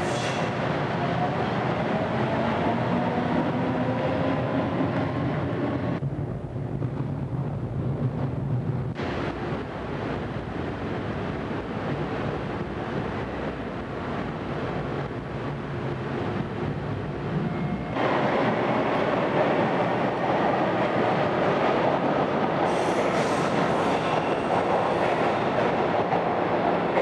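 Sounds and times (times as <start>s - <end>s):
subway train at platform: 0.0s - 27.0s.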